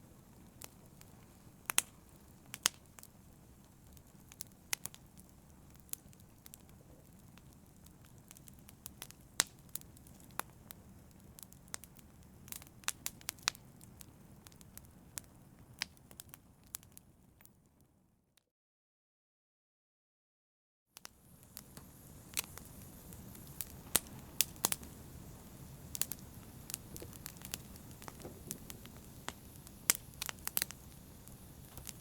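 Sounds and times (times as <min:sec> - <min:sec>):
wood fire crackling: 0:00.0 - 0:17.6, 0:21.0 - 0:32.0.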